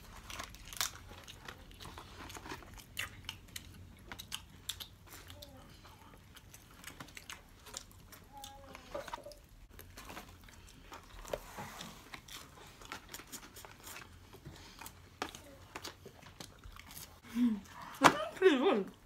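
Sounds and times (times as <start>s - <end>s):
faint chewing: 0.0s - 18.0s.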